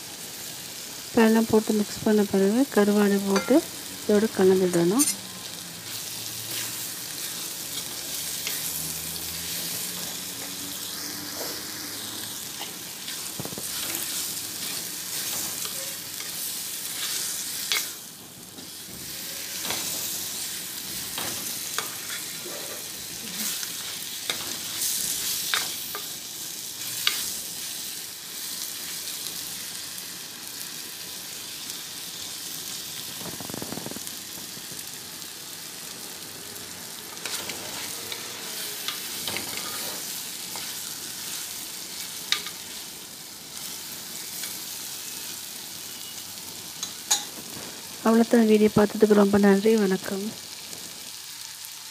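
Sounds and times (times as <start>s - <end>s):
food sizzling in a pot: 0.0s - 51.9s.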